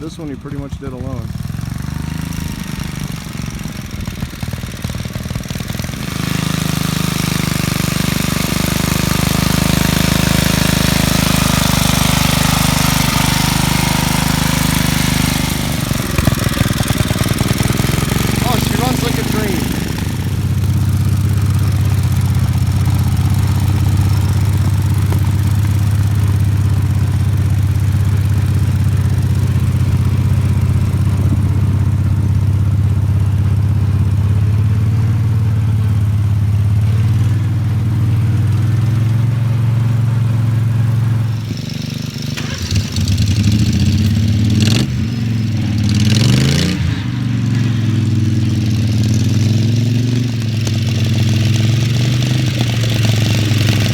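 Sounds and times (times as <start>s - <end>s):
garden tractor engine running: 0.0s - 53.9s.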